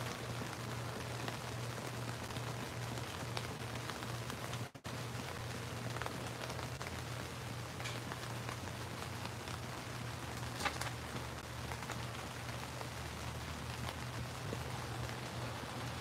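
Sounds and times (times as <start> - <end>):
low steady hum: 0.0 - 16.0
steady rain: 0.0 - 16.0.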